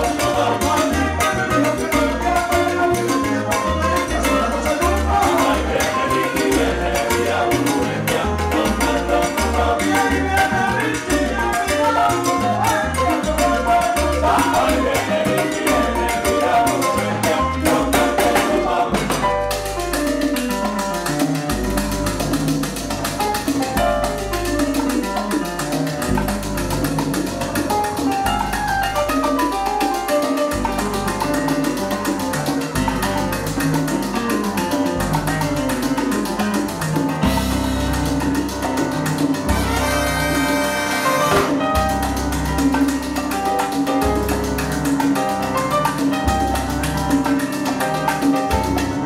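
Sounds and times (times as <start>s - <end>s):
congas bongos and timbales rhythm: 0.0s - 49.0s
digital piano: 0.0s - 49.0s
salsa band playing: 0.0s - 49.0s.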